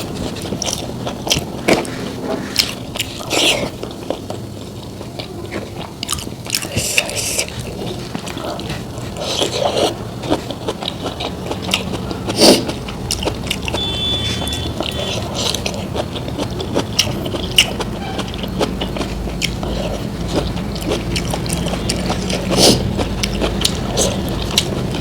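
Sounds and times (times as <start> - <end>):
chewing and crunching: 0.0 - 25.0.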